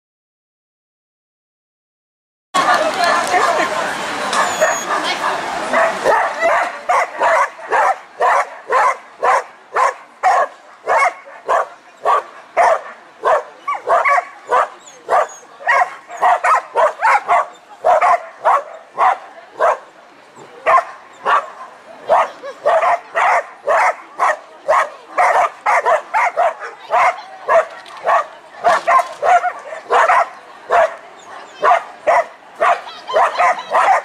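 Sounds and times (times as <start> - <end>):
dog barking: 4.3 - 19.8, 20.6 - 34.0.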